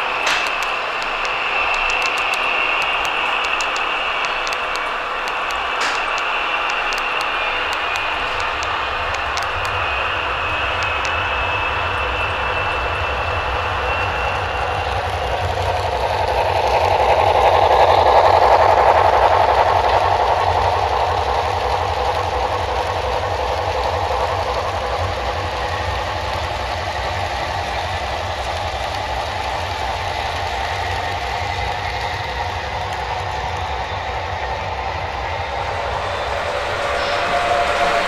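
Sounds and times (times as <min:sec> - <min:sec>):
model train running: 0:00.0 - 0:38.0.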